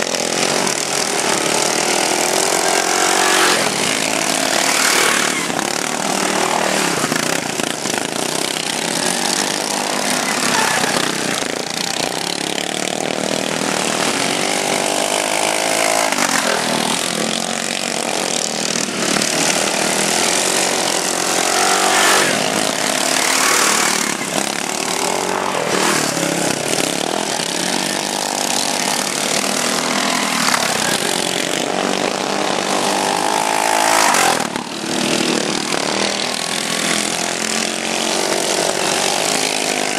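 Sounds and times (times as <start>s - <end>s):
racing lawnmower engines: 0.0s - 39.9s.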